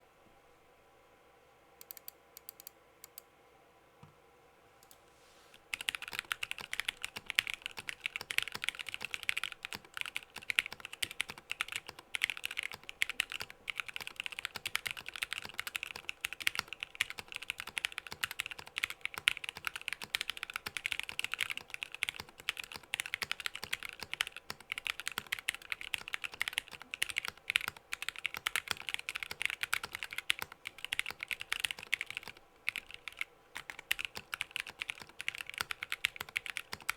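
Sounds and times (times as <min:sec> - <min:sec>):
fast typing on mechanical keyboard: 0:05.7 - 0:36.9.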